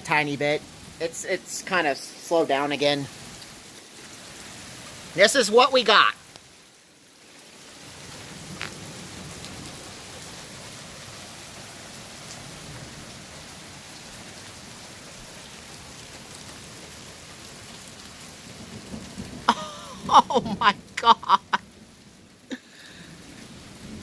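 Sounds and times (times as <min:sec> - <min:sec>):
rain and hail on grass: 0:00.0 - 0:24.0.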